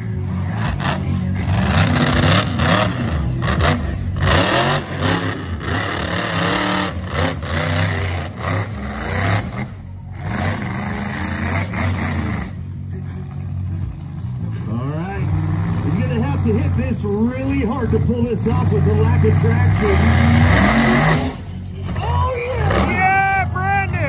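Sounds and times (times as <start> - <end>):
truck engine revving hard: 0.0 - 24.0.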